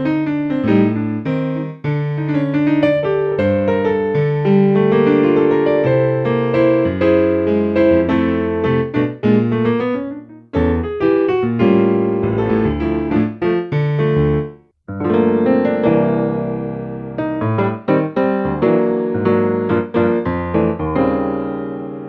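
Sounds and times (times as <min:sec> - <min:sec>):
keyboard playing piano sound: 0:00.0 - 0:22.0.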